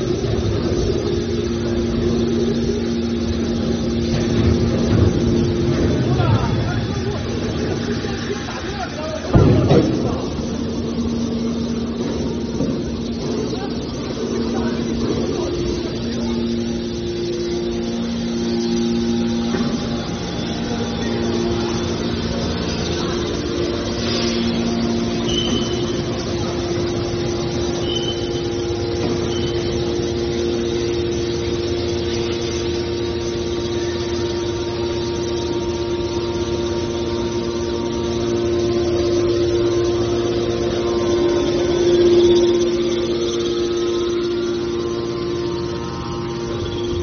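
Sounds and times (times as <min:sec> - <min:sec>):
hydraulic motors humming and whining: 0:00.0 - 0:47.0.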